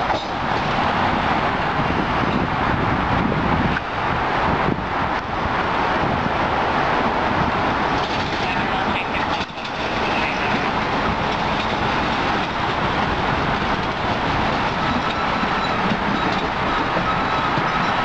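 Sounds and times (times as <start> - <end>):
subway train wheels on rails: 0.0 - 18.0.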